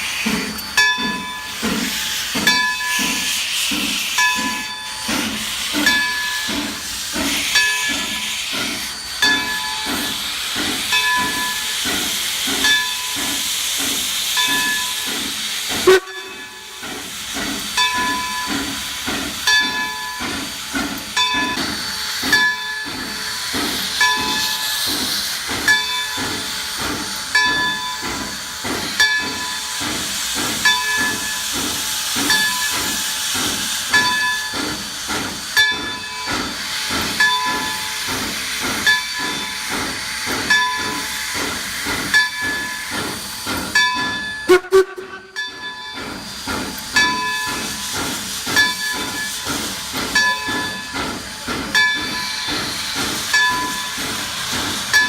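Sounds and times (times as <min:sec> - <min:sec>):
locomotive exhaust chuffs: 0:00.0 - 0:55.0
steam hissing: 0:00.0 - 0:55.0.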